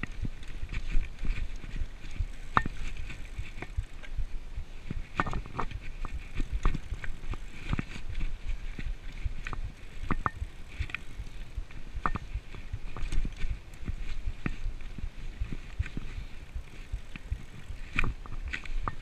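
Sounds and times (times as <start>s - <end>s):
bike tyres rumbling on dirt: 0.0s - 19.0s
wind on microphone: 0.0s - 19.0s.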